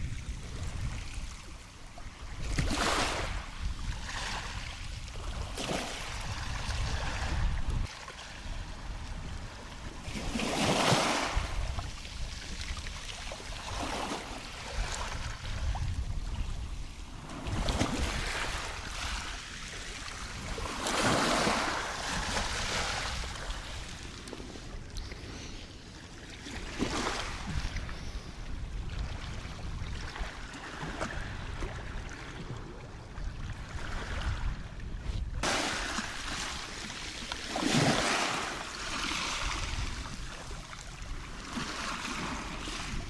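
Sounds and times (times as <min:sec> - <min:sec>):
wind on microphone: 0:00.0 - 0:25.9, 0:26.5 - 0:43.0
ocean waves washing ashore: 0:00.0 - 0:43.0.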